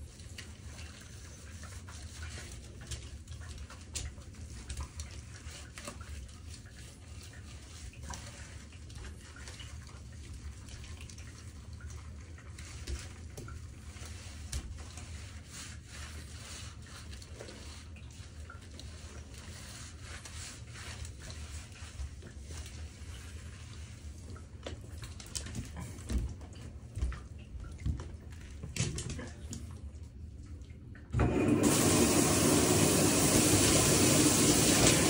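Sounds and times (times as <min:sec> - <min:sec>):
shower water running: 0:00.0 - 0:35.0.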